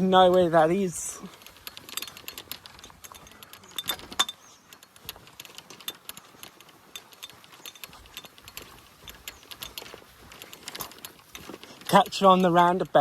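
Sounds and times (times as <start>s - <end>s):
golf clubs clinking in a bag: 0.0s - 12.8s.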